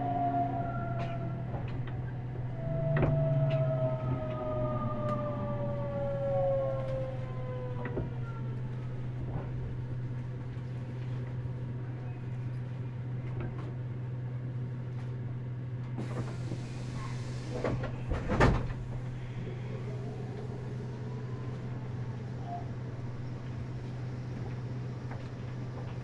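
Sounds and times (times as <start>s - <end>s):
train equipment humming: 0.0s - 26.0s.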